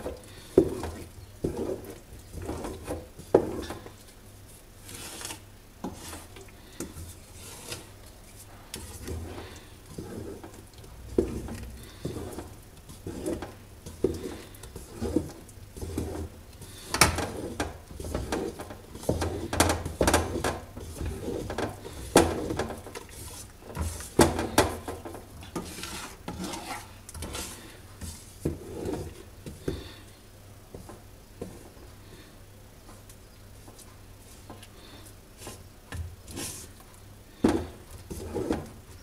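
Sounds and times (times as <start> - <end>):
stick scraping in pot: 0.0 - 4.0, 4.8 - 30.0, 35.4 - 36.8, 37.7 - 38.8.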